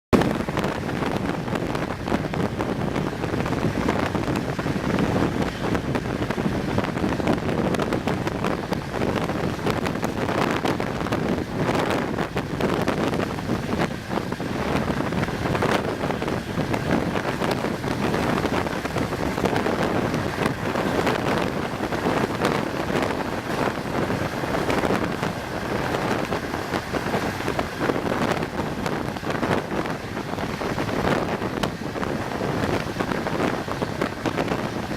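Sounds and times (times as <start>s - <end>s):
train running noise: 0.1s - 34.9s
wind buffeting microphone: 0.1s - 34.9s.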